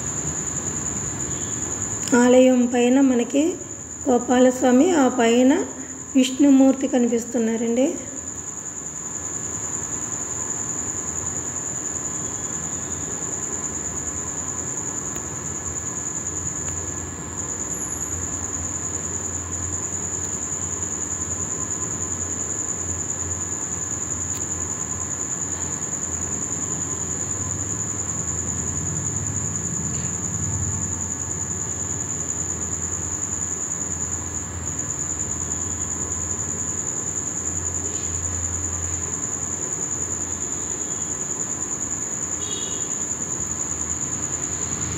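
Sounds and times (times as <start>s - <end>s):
crickets chirring: 0.0s - 44.9s.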